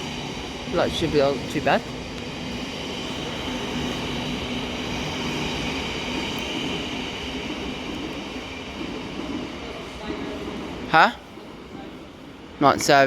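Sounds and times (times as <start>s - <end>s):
electric train whine: 0.0s - 13.0s
train rail rumble: 0.0s - 13.0s.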